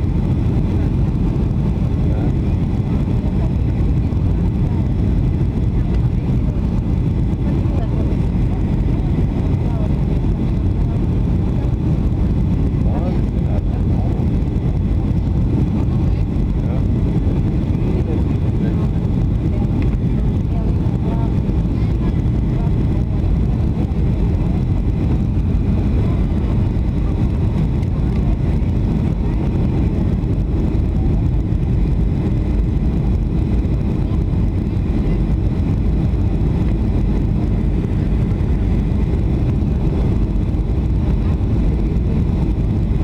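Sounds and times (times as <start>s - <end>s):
airplane cabin engine rumble: 0.0s - 43.0s.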